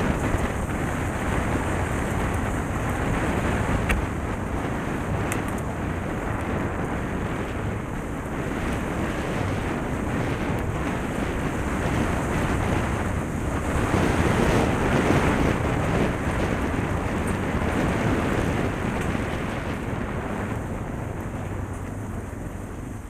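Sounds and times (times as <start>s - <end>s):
low rumble: 0.0s - 23.0s
wind buffeting microphone: 0.0s - 23.0s.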